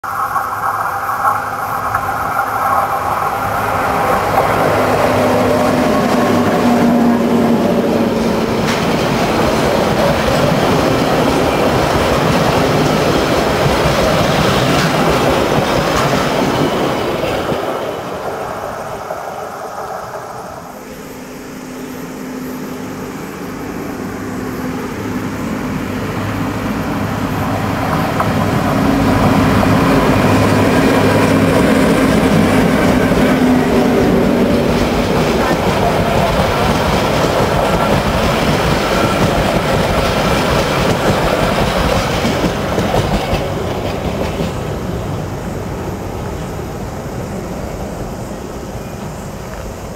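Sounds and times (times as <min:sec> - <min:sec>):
train wheels clacking on rails: 0:00.0 - 0:20.8, 0:23.4 - 0:49.9
electric locomotive hum: 0:00.0 - 0:49.9.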